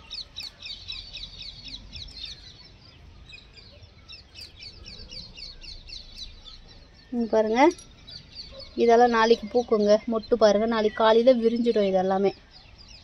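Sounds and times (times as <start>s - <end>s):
bird chirping: 0.0s - 13.0s
faint background noise: 0.0s - 13.0s.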